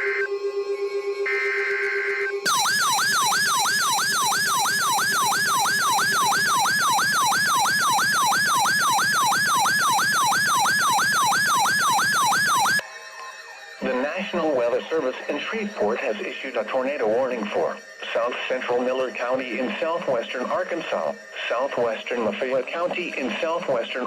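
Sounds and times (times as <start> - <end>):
electronic siren yelping: 0.0 - 23.0.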